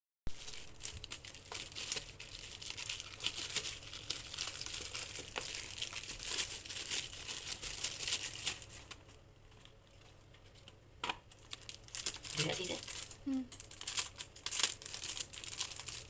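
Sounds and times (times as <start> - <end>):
packaging crinkling and rustling: 0.3 - 16.0.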